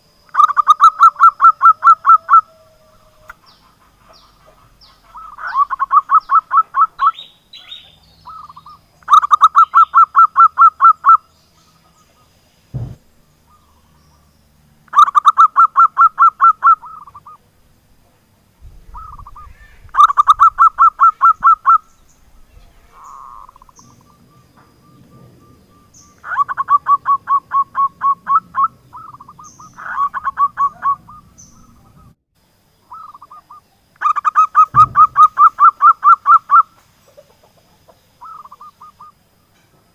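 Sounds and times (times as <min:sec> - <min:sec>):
dove cooing: 0:00.4 - 0:11.2, 0:14.9 - 0:17.4, 0:18.7 - 0:32.2, 0:32.9 - 0:39.1.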